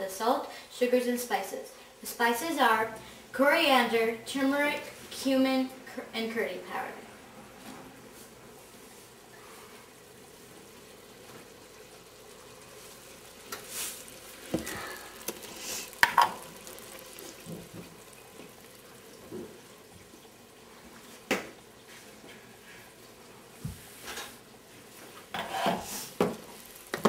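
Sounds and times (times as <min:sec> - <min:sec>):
faint frying sizzle: 0:00.0 - 0:27.0.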